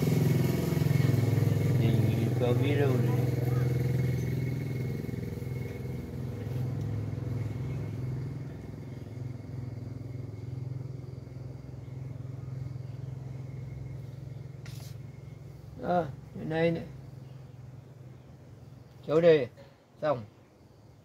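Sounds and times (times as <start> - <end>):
engine humming: 0.0 - 18.9.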